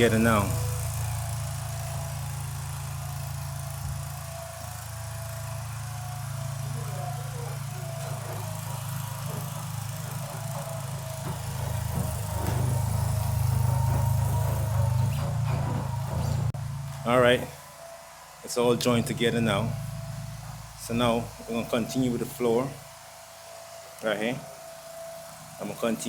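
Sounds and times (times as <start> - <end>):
engine humming: 0.0 - 17.6, 18.5 - 23.0.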